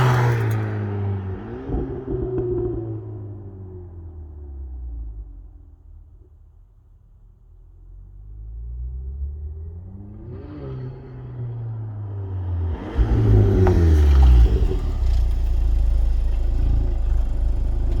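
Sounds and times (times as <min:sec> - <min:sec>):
car engine accelerating: 0:00.0 - 0:06.3, 0:07.8 - 0:18.0.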